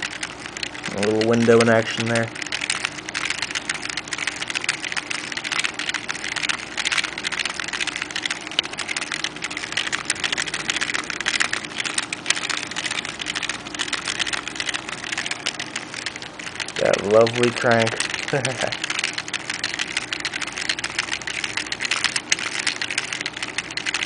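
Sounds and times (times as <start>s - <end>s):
plastic gears clicking and clattering: 0.0s - 24.0s.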